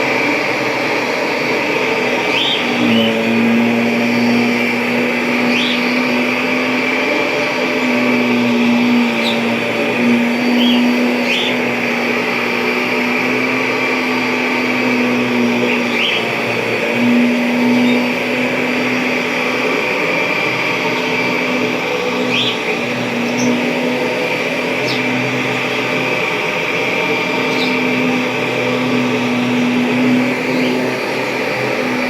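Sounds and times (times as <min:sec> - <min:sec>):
vacuum cleaner motor hum: 0:00.0 - 0:32.0.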